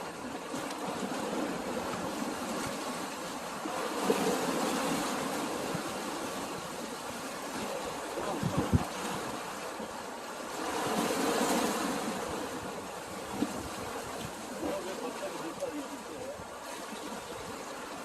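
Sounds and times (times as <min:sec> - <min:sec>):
sea water splashing at shore: 0:00.0 - 0:18.0.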